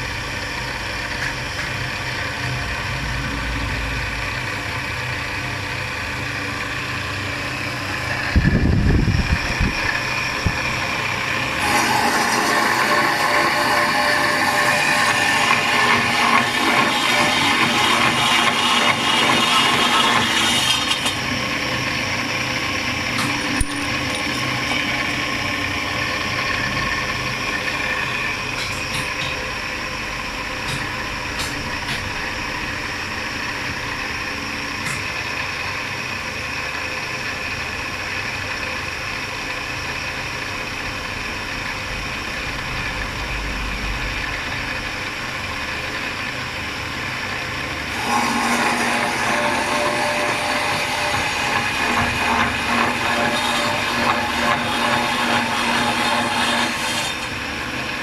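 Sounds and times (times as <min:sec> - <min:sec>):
cnc machine hum and whine: 0:00.0 - 0:58.0.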